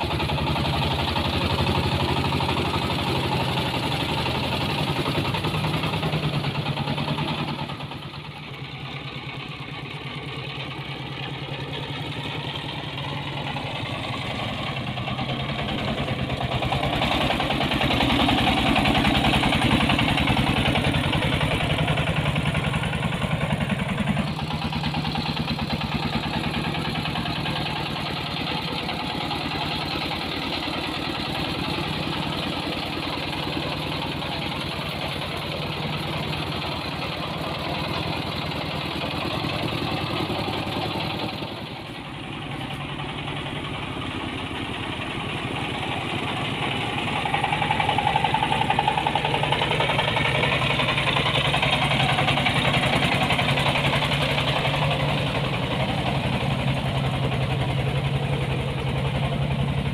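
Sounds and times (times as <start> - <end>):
small diesel engine chugging: 0.0 - 59.9.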